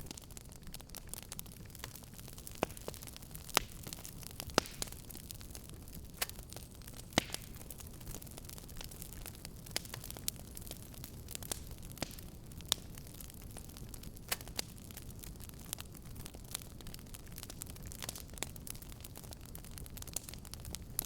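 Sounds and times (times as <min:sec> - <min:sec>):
fireplace fire crackling: 0:00.0 - 0:21.0
low rumble of burning: 0:00.0 - 0:21.0.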